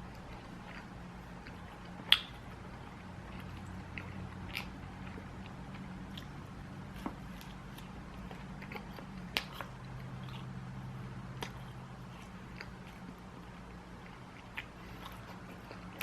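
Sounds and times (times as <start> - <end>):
person biting and chewing food: 0.0 - 16.0
steady low hum: 0.0 - 16.0.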